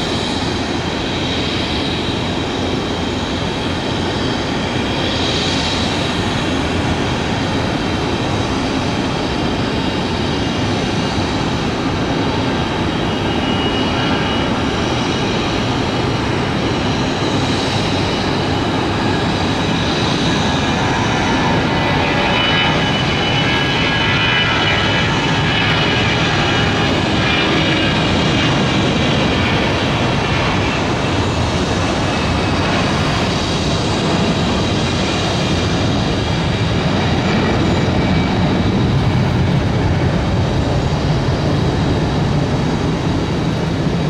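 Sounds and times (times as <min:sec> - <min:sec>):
high jet engine whine: 0:00.0 - 0:44.0
jet airliner taking off: 0:00.0 - 0:44.0.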